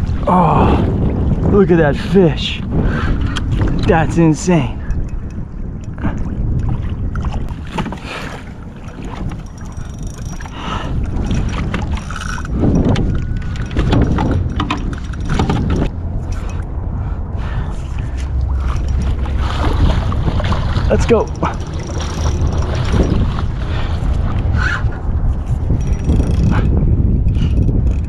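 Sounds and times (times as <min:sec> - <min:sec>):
water lapping against kayak hull: 0:00.0 - 0:28.0
wind rumbling on microphone: 0:00.0 - 0:28.0.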